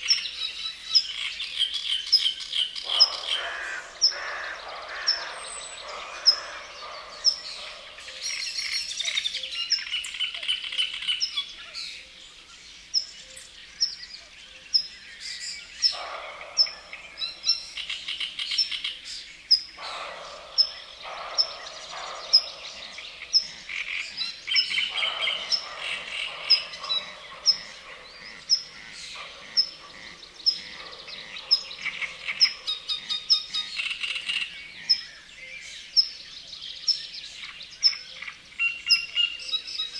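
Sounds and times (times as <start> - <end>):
birds trilling: 0.0 - 39.9
frogs croaking faintly: 0.0 - 39.9.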